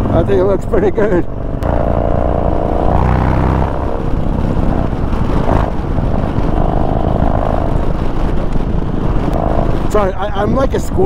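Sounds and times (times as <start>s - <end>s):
motorcycle engine running: 0.0s - 11.0s
wind noise: 0.0s - 11.0s.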